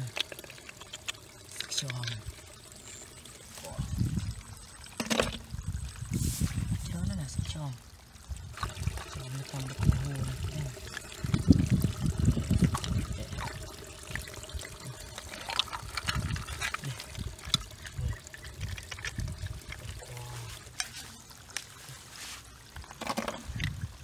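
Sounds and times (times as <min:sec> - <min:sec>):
small water drips: 0:00.0 - 0:24.0
water splashing and sloshing: 0:00.0 - 0:24.0.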